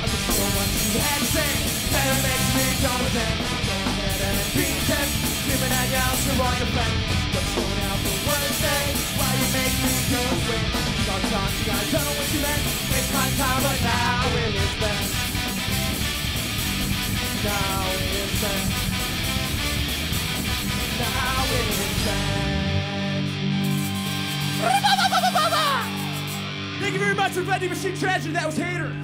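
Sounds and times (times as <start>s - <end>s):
live rock band playing: 0.0s - 28.9s.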